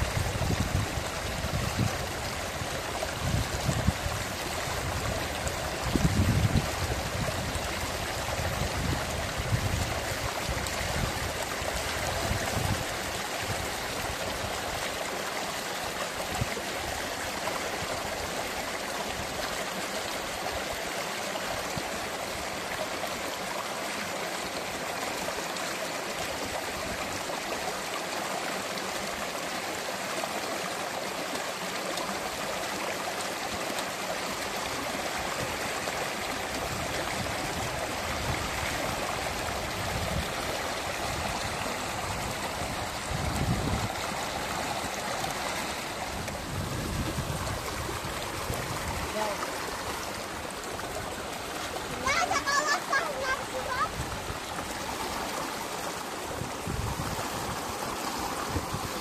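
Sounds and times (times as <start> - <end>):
rushing flowing water: 0.0 - 59.0.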